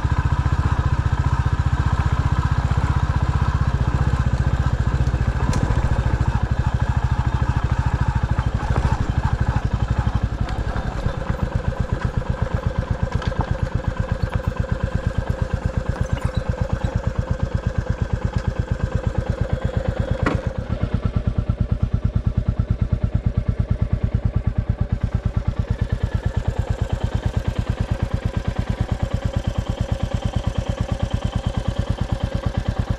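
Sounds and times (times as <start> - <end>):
vehicle engine idling: 0.0 - 32.9.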